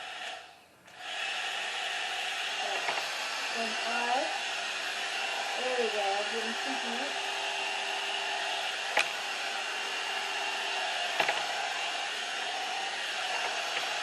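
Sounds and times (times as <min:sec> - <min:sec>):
hot-air brush blowing: 0:00.0 - 0:14.0.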